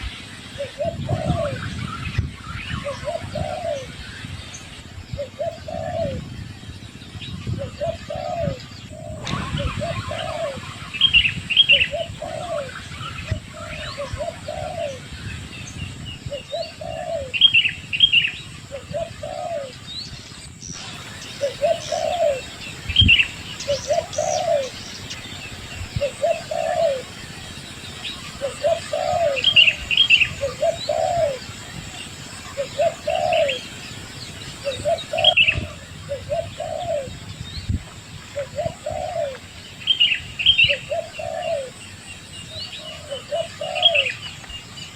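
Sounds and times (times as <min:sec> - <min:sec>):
bird chirps: 0:00.0 - 0:44.9
dove cooing: 0:00.6 - 0:01.8, 0:02.8 - 0:04.0, 0:05.1 - 0:06.3, 0:07.5 - 0:15.2, 0:16.0 - 0:19.8, 0:20.7 - 0:37.4, 0:38.1 - 0:42.0, 0:42.8 - 0:44.4.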